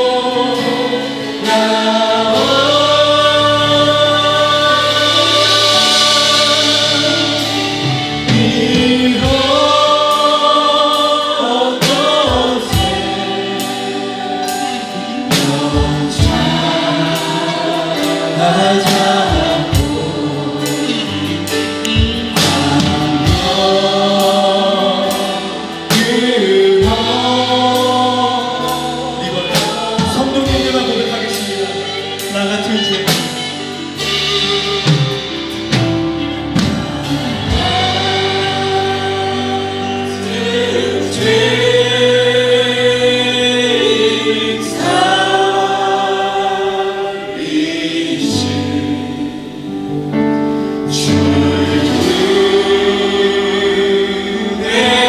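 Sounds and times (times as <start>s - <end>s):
band playing with regular beat: 0.0s - 55.0s
group singing praise song: 0.0s - 55.0s.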